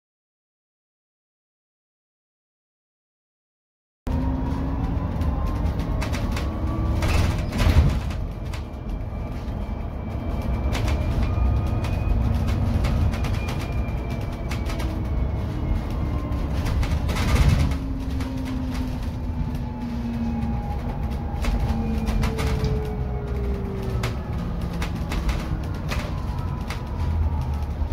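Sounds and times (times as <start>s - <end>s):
tyre and road rumble: 4.1s - 27.9s.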